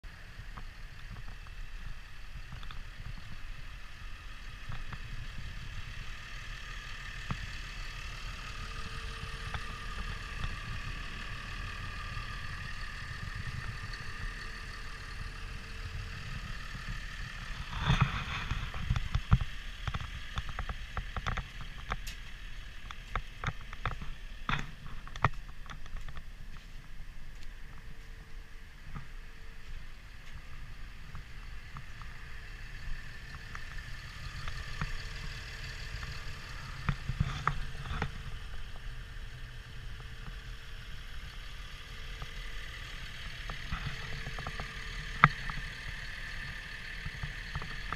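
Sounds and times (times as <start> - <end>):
diesel engine rumbling with whine: 0.0 - 47.9.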